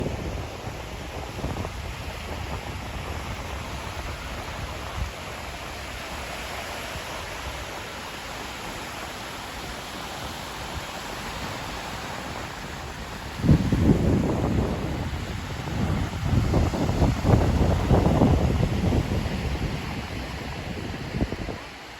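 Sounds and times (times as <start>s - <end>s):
sea surf washing onto shore: 0.0s - 21.9s.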